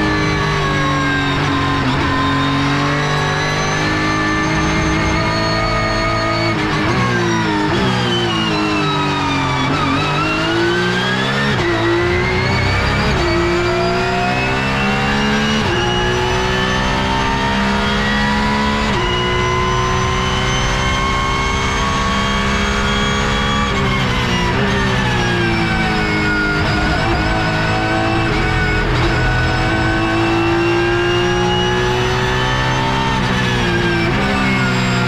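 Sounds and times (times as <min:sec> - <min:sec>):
race car engine revving and upshifting: 0:00.0 - 0:35.0.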